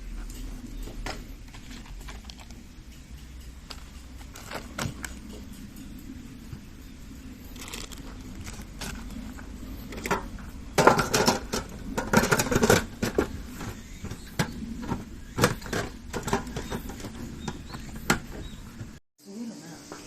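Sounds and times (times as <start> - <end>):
hard objects clattering: 0.1 - 19.0.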